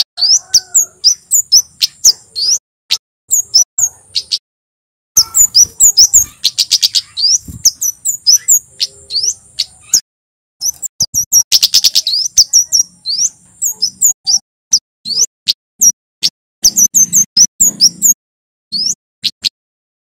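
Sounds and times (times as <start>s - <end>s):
bird singing high chirps: 0.0s - 4.4s, 5.2s - 19.6s.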